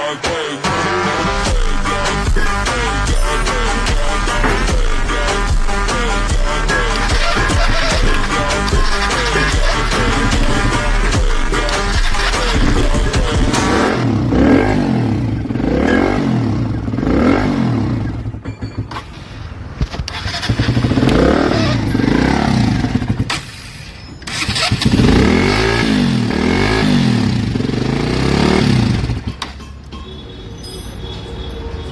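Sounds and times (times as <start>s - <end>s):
motorcycle engine revving: 0.7s - 19.0s, 19.9s - 23.6s, 24.2s - 29.6s.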